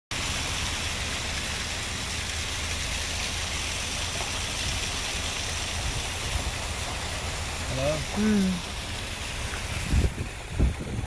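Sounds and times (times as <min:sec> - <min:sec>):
water cascading over rock ledges: 0:00.1 - 0:11.0.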